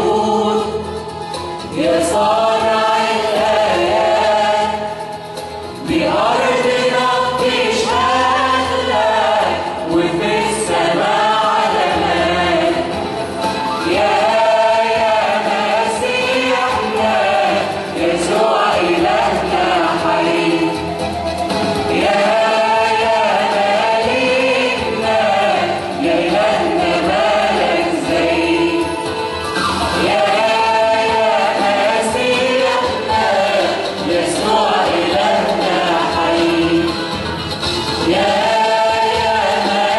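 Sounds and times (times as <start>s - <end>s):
choir singing a hymn: 0.0s - 37.3s, 37.9s - 39.9s.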